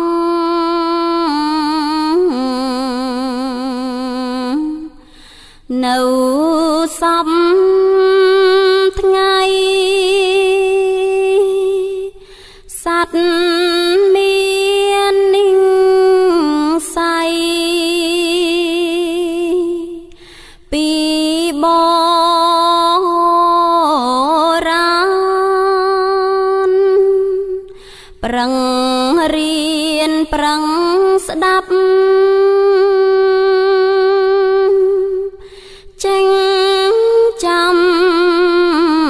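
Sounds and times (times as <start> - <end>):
person chanting: 0.0 - 5.1, 5.7 - 39.0.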